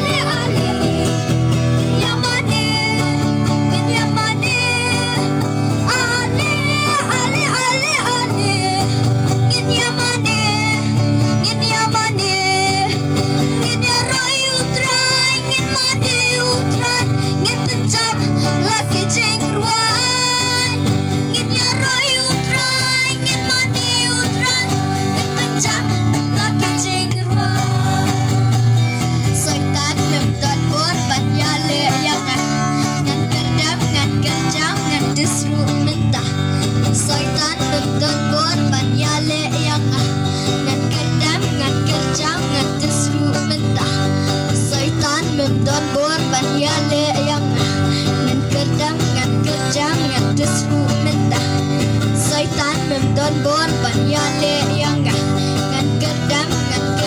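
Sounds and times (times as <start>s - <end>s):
amplified guitar: 0.0s - 57.0s
bass line: 0.0s - 57.0s
girl singing into microphone: 0.0s - 57.0s.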